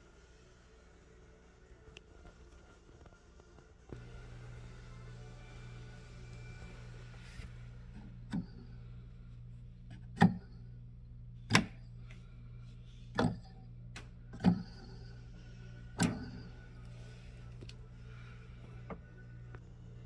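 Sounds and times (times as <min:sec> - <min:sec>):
steady low hum: 0:03.7 - 0:20.0.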